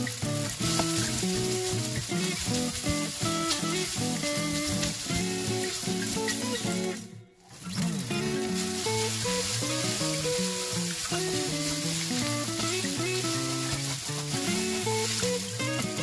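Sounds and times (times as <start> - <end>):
noodles sizzling in frying pan: 0.0 - 16.0.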